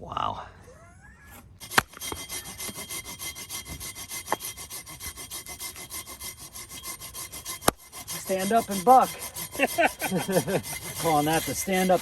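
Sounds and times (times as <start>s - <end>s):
hand saw cutting log: 1.6s - 12.0s.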